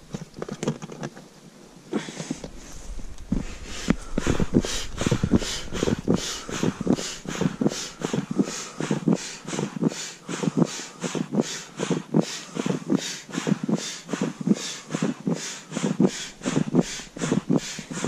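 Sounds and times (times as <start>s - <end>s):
hand air pump puffing: 1.9s - 18.0s.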